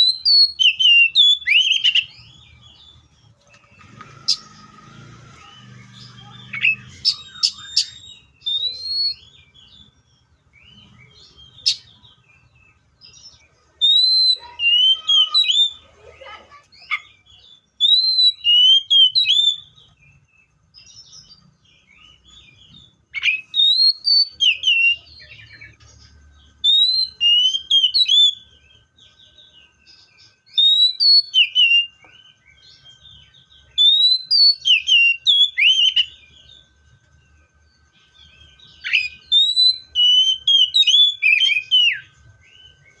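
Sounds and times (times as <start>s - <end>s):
bird whistling song: 0.0s - 15.9s, 16.8s - 43.0s.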